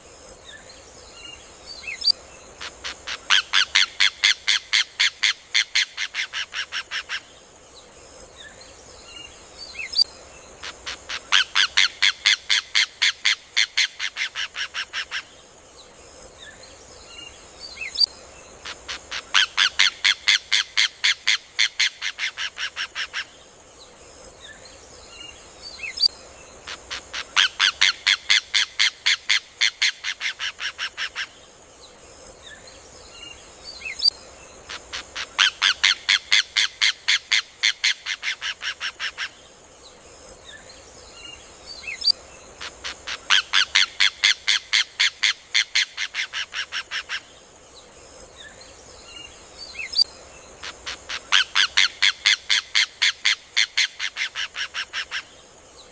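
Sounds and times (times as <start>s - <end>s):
faint bird chirps: 0.0s - 45.9s
steady high hiss: 0.0s - 55.9s.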